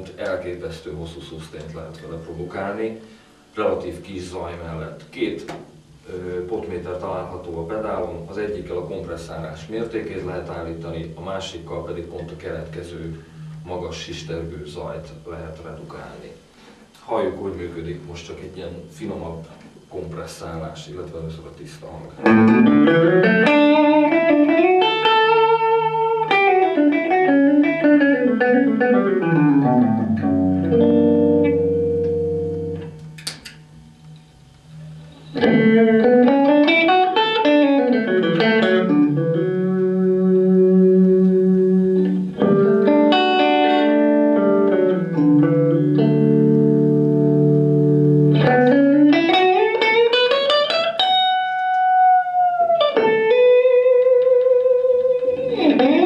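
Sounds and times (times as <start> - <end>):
clean electric guitar playing: 0.0 - 16.0, 22.1 - 56.0.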